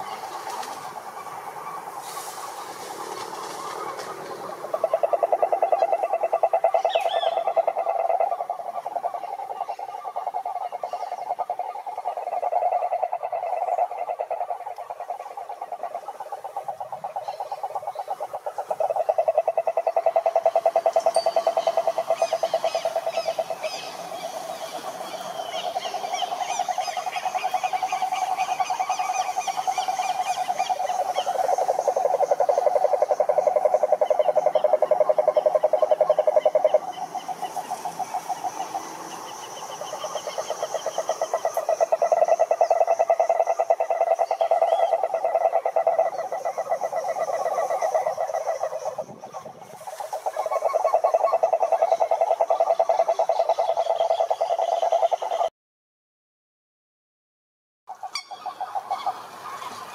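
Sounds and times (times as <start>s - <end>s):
toads trilling: 3.1s - 55.5s, 57.9s - 59.9s.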